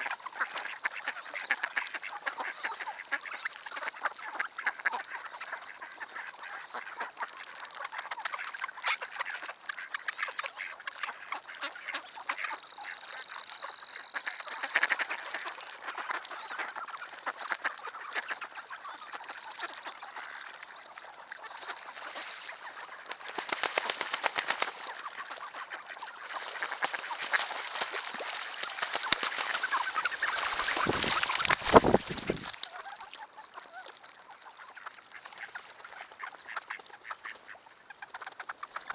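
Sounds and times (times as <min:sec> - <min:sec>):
ducks quacking: 0:00.0 - 0:38.9.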